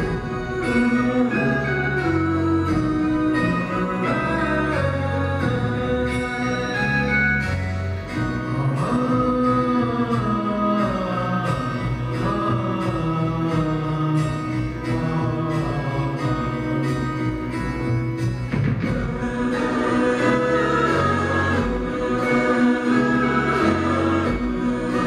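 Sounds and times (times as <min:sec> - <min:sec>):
live band slow song: 0:00.0 - 0:25.0.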